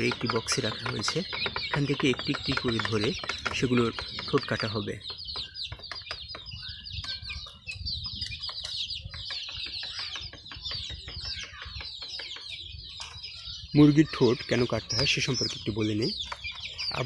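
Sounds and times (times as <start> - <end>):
chickens clucking and calling: 0.0 - 17.0.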